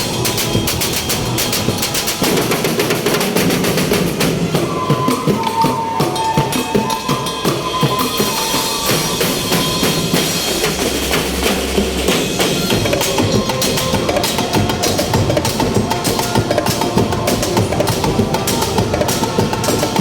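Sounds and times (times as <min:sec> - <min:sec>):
drum band playing fast beat: 0:00.0 - 0:20.0
held high note: 0:00.0 - 0:20.0.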